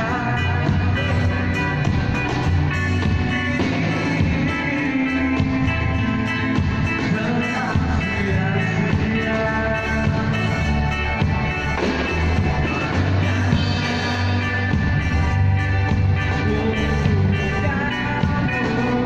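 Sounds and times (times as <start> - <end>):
man singing into a microphone: 0.0 - 1.9, 3.1 - 10.9, 12.7 - 19.0
drum kit: 0.0 - 19.0
electric guitar: 0.0 - 19.0.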